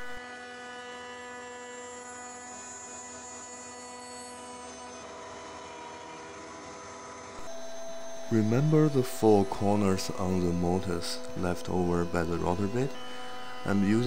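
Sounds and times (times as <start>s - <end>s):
router whining: 0.0s - 14.0s.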